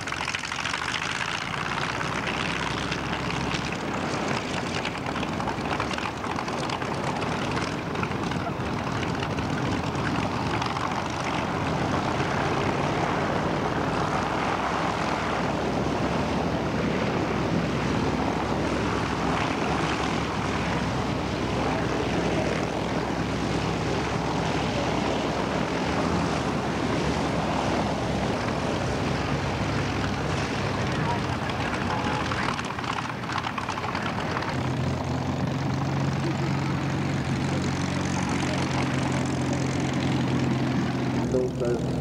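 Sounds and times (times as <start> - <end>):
propeller aircraft engine running: 0.0 - 42.0.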